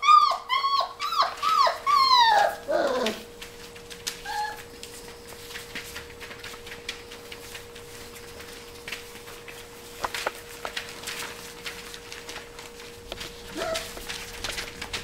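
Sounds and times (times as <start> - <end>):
puppy paws pattering on paper: 0.0 - 15.0.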